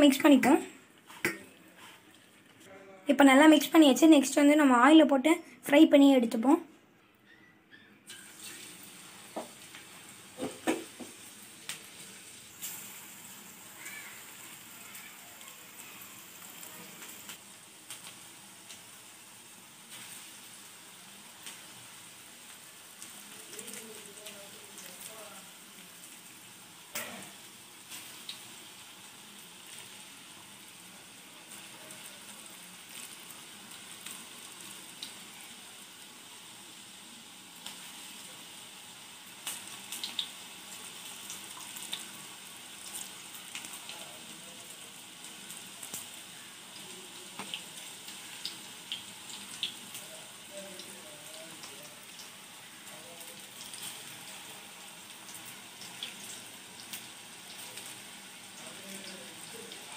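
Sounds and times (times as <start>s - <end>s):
food deep-frying in hot oil: 0.0s - 6.6s, 8.1s - 59.9s.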